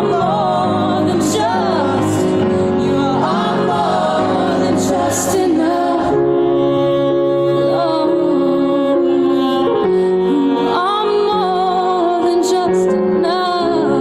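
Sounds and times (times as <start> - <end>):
sustained chords: 0.0 - 12.1
person singing: 0.0 - 14.0.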